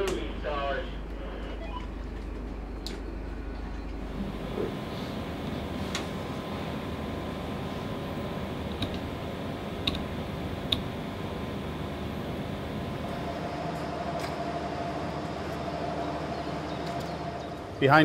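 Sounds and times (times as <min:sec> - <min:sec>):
machinery hum: 0:00.0 - 0:18.0
steady whine: 0:00.0 - 0:18.0.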